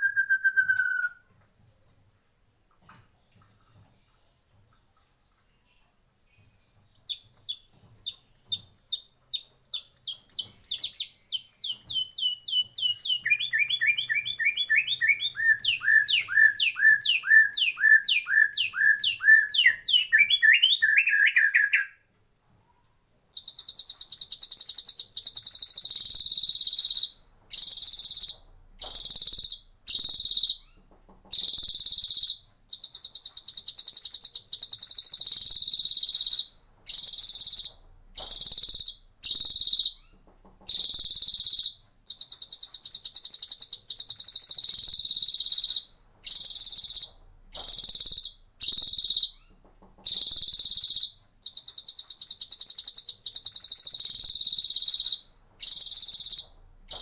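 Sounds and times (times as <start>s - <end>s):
bird singing whistled notes: 0.0s - 1.9s, 5.7s - 22.0s, 22.8s - 40.1s, 40.7s - 57.0s.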